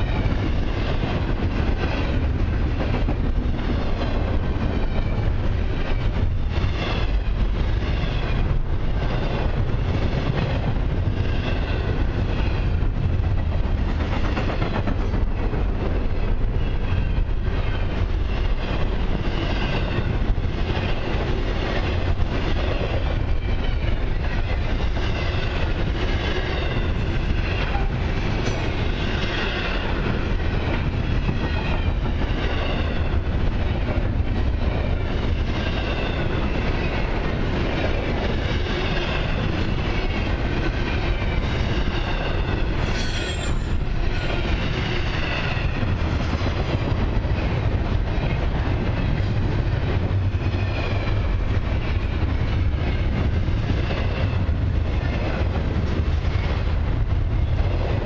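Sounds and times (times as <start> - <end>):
freight train wheels rumbling: 0.0 - 58.0
train clatter: 0.0 - 58.0.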